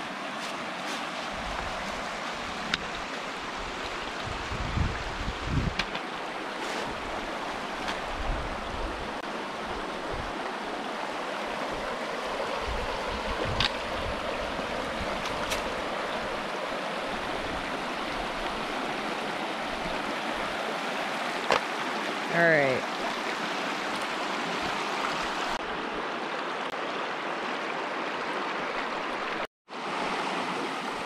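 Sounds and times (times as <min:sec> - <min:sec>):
creek water rushing over stones: 0:00.0 - 0:31.0.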